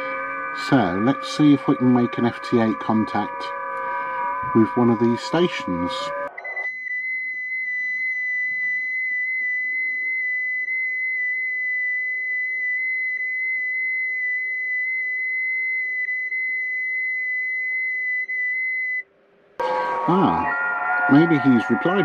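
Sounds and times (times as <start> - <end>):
high whistle-like digital tone: 0.0 - 3.8, 4.4 - 19.0, 19.6 - 22.0.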